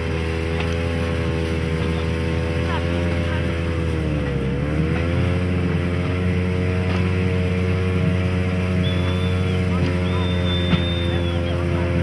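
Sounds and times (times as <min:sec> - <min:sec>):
rail vehicle engine running: 0:00.0 - 0:12.0.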